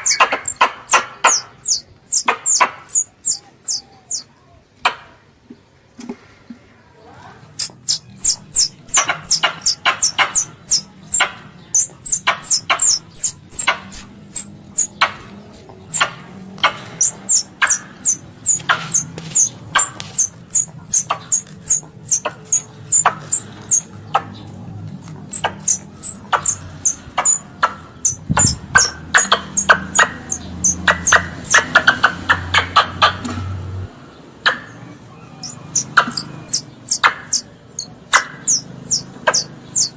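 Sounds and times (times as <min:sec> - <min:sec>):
high-pitched squirrel call chirps: 0:00.0 - 0:04.3, 0:07.6 - 0:24.3, 0:25.3 - 0:33.2, 0:34.5 - 0:39.9.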